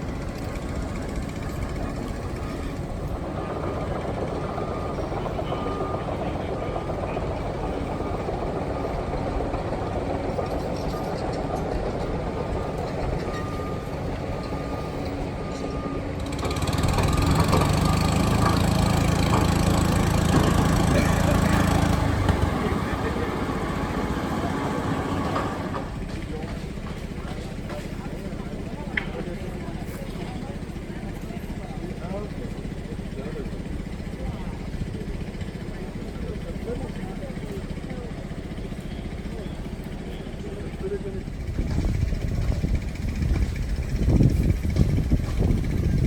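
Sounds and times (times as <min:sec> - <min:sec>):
deep engine drone: 0:00.0 - 0:46.0
heavy engine running: 0:00.0 - 0:46.0.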